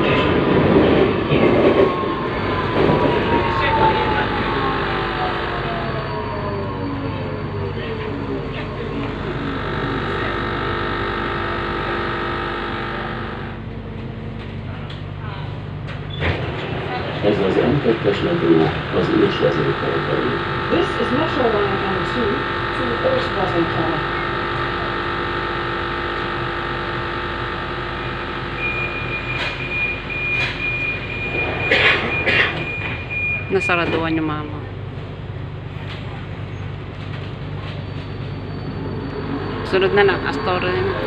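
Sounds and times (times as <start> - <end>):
train rumbling on rails: 0.0 - 25.4, 27.8 - 41.0
metro train whine: 0.0 - 41.0
pulsing door warning tone: 1.2 - 14.4, 17.2 - 34.5, 37.6 - 41.0.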